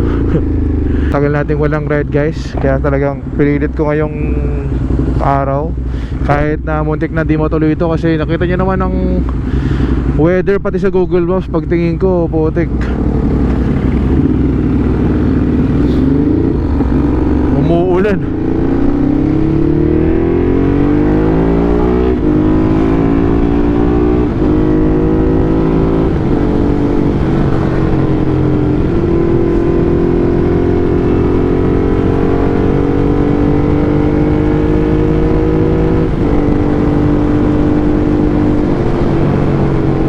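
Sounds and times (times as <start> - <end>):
motorcycle engine: 0.0 - 10.6, 11.3 - 40.0
wind and road noise: 0.0 - 40.0.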